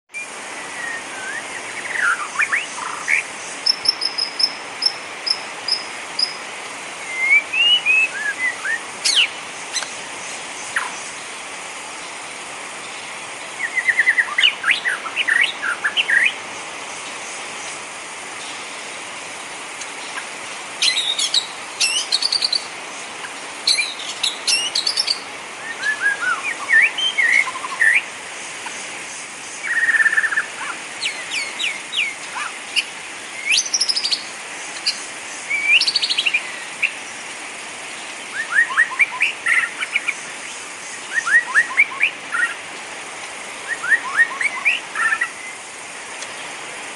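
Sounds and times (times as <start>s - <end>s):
songbirds chirping and whistling: 0.1s - 46.6s
rain hiss: 0.1s - 46.9s.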